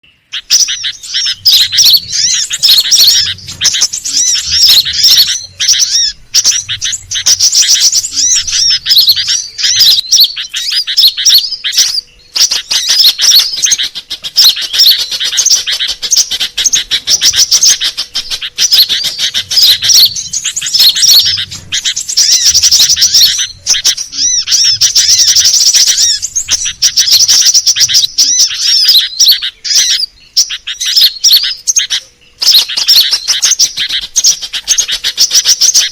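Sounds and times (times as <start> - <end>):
sunbird high twittering chirps: 0.0 - 35.9.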